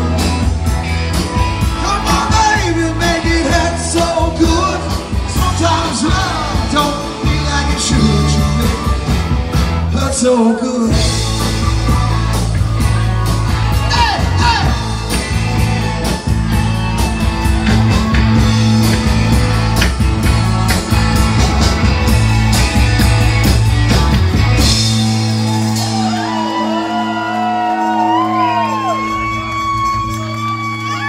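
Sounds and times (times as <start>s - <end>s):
live rock band playing: 0.0s - 31.0s.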